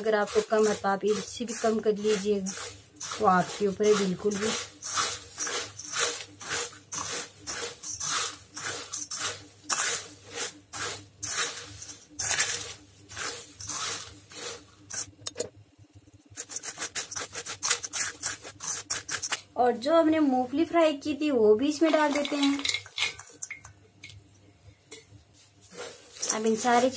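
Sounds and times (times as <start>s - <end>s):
spoon stirring in steel bowl: 0.0s - 19.5s, 21.8s - 24.2s, 24.9s - 26.9s.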